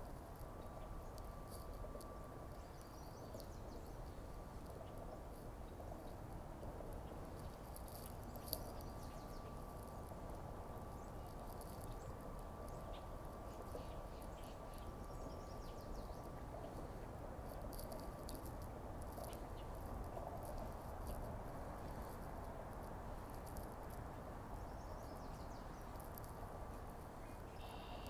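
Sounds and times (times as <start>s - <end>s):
small clicks and ticks: 0.0s - 27.4s
faint background rumble: 0.0s - 28.0s
faint high whine: 0.0s - 28.0s.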